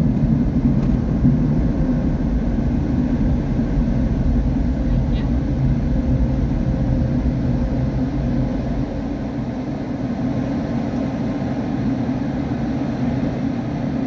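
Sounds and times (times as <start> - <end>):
muffled car wash machinery rumble: 0.0 - 14.0.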